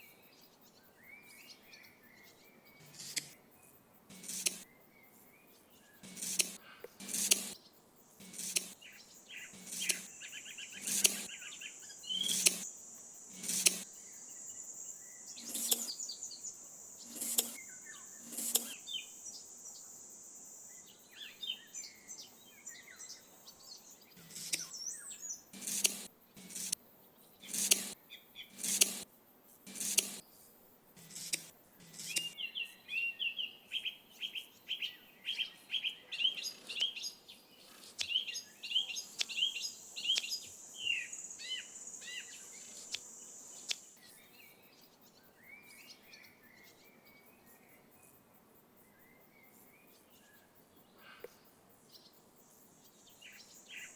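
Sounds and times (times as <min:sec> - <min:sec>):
birds chirping: 0:00.0 - 0:29.0, 0:29.7 - 0:48.1.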